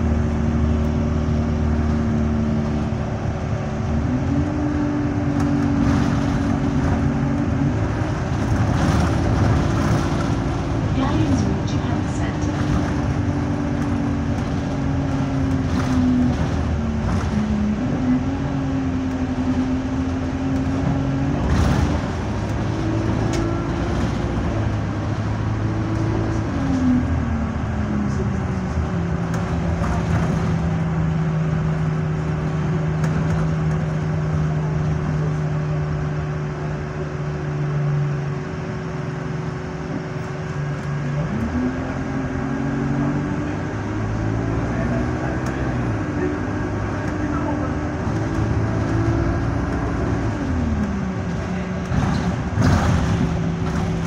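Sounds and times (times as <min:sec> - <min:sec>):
bus diesel engine from inside: 0:00.0 - 0:54.0.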